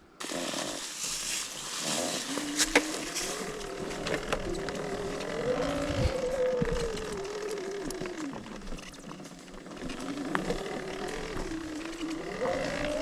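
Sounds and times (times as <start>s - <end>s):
electric dirt bike motor whine: 0.2s - 13.0s.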